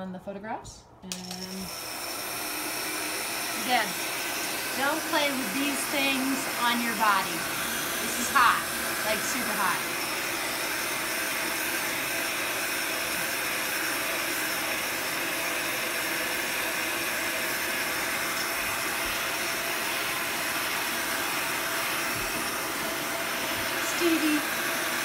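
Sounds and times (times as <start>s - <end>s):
heat gun blowing hot air: 1.2s - 25.0s.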